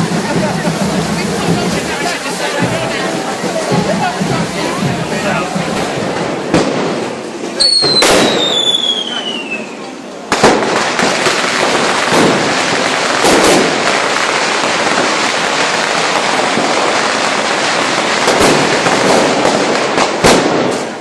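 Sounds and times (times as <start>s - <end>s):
sharp firework bangs: 0.0s - 9.6s, 10.3s - 21.0s
fireworks crackling: 0.0s - 21.0s.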